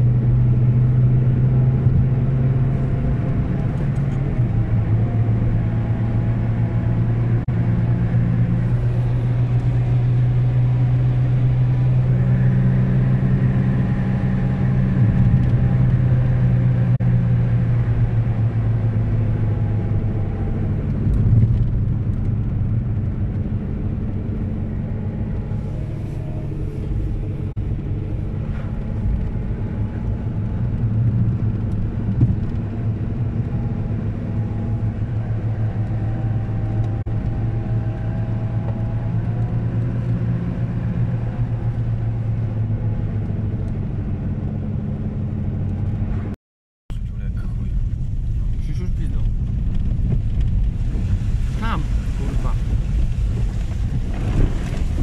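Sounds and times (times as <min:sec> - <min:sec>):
car engine drone: 0:00.0 - 0:55.0
tyre and road noise: 0:00.0 - 0:55.0.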